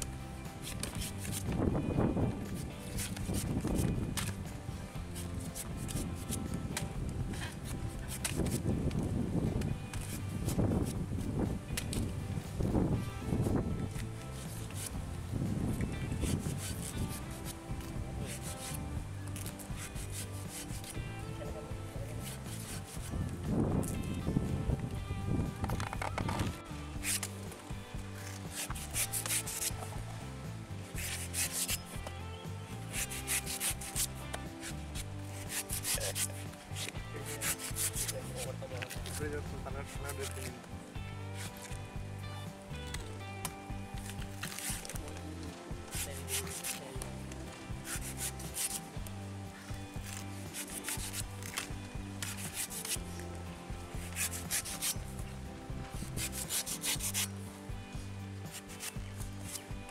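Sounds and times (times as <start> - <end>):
knife scraping fruit husk: 0.0 - 9.0, 9.6 - 12.2, 13.3 - 24.3, 25.8 - 40.7, 41.3 - 41.8, 42.9 - 55.3, 55.9 - 57.6, 58.4 - 59.9
background music: 0.0 - 59.9.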